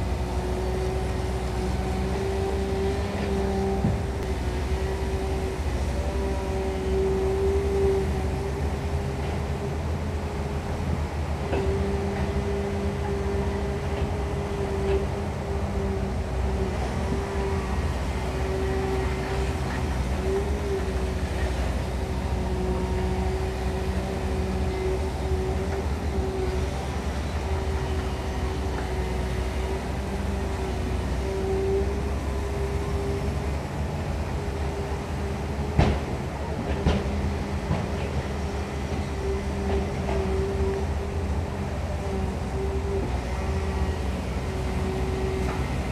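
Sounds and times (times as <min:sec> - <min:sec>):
excavator diesel engine droning: 0:00.0 - 0:45.9.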